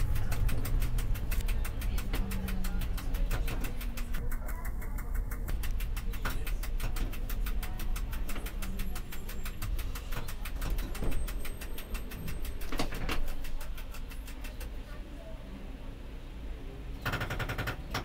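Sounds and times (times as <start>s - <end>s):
tram rumbling on tracks: 0.0s - 15.5s.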